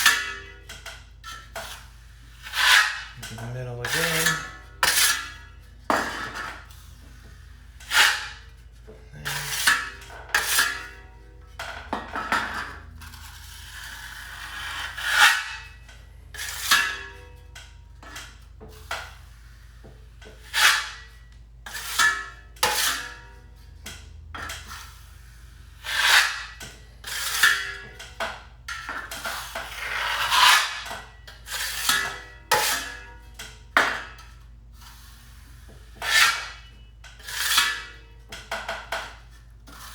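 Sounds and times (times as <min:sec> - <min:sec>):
drywall knife scraping compound: 0:00.0 - 0:17.4, 0:18.1 - 0:28.1, 0:29.0 - 0:39.9.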